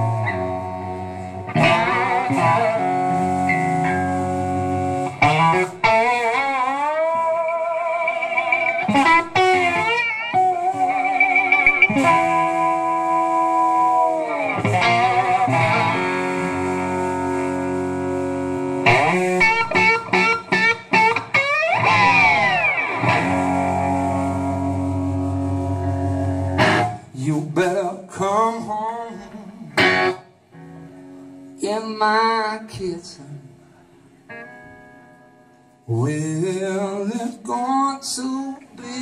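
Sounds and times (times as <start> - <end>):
slow blues electric guitar: 0.0 - 39.0.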